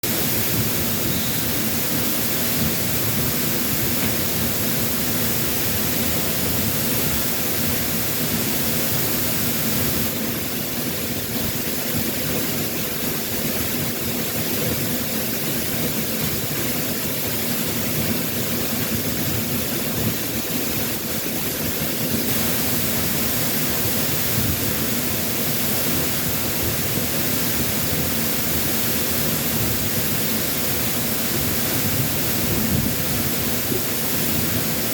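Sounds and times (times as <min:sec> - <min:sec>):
waterfall pouring: 0:00.0 - 0:34.9.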